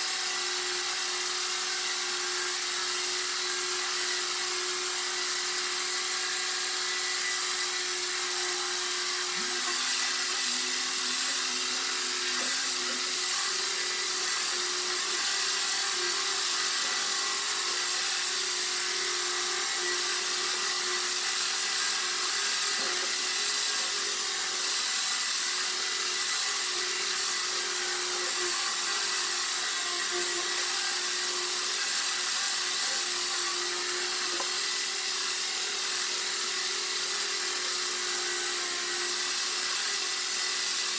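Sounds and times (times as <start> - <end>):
power sander whirring: 0.0 - 40.9.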